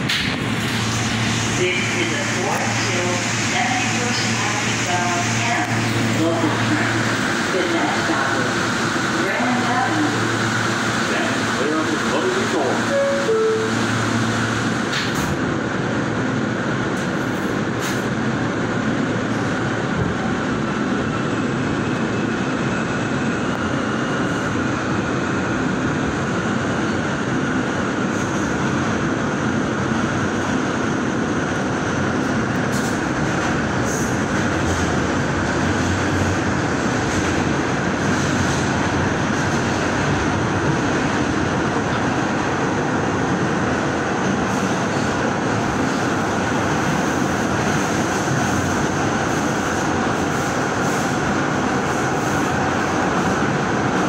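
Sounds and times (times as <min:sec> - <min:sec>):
subway wheels on rail: 0:00.0 - 0:54.0.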